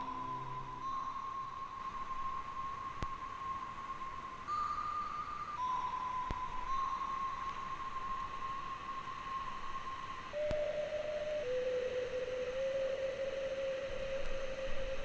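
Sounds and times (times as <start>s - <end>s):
pure steady tone: 0.0s - 15.0s
steady hiss: 0.0s - 15.0s.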